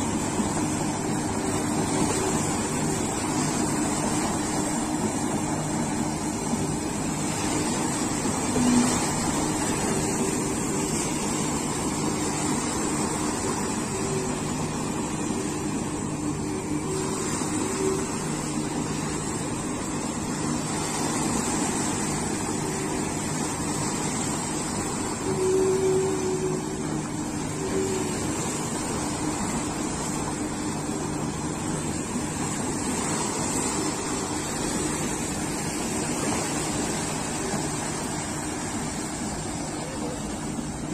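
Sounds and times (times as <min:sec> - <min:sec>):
excavator diesel engine humming: 0:00.0 - 0:40.9
waves washing against rocks: 0:00.0 - 0:40.9.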